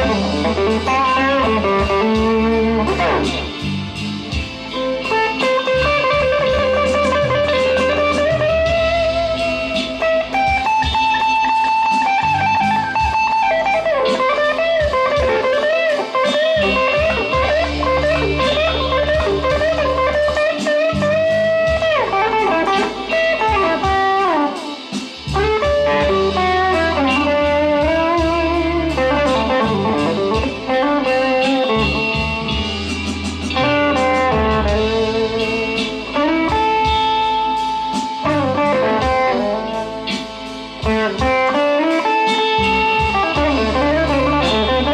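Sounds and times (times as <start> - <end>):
electric guitar blues lead: 0.0 - 44.9.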